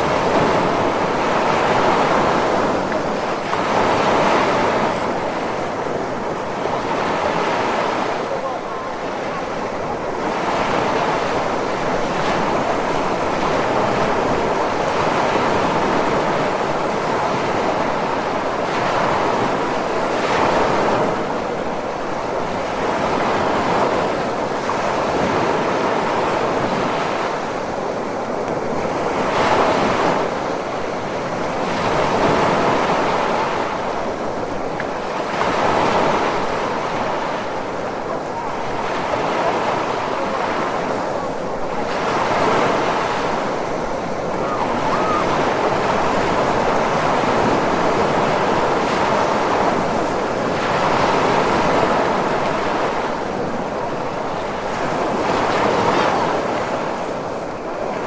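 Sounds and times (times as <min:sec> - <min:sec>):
ocean waves surf: 0:00.0 - 0:58.0.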